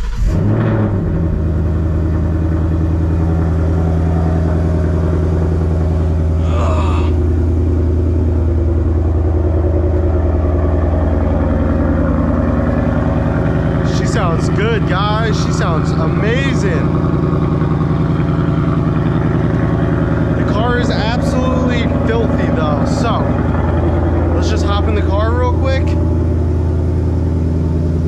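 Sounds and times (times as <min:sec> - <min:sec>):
car engine starting and idling: 0:00.0 - 0:28.0.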